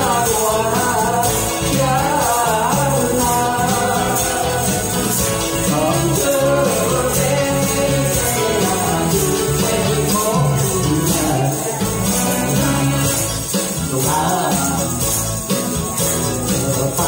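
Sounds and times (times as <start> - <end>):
slow karaoke song over pa: 0.0 - 17.0
tambourine shaken: 0.0 - 17.0.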